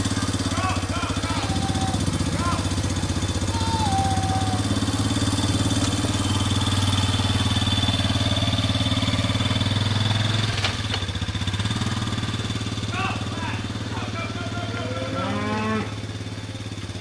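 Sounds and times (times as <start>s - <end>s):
small atv engine running: 0.0s - 17.0s.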